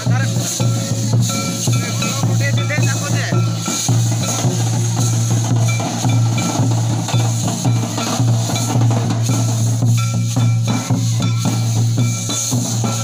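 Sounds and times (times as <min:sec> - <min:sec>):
drums beaten in quick rhythm: 0:00.0 - 0:13.0.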